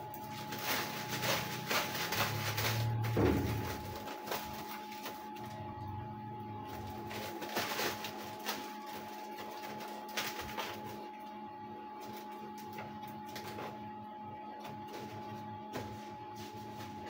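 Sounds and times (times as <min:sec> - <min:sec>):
cotton candy machine hum: 0:00.0 - 0:17.0.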